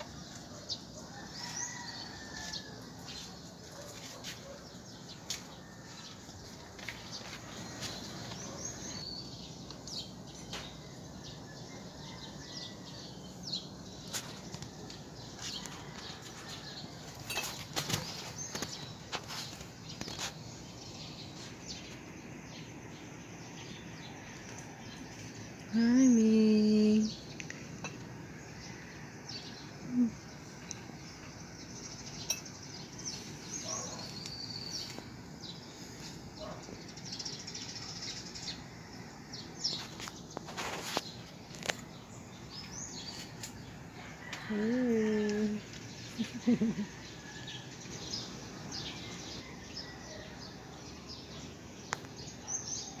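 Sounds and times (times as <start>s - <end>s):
steady background hiss: 0.0s - 44.5s
small birds chirping: 0.0s - 53.0s.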